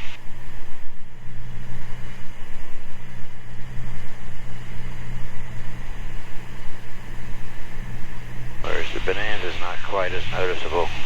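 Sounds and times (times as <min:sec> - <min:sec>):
airplane engine droning in cabin: 0:00.0 - 0:11.0.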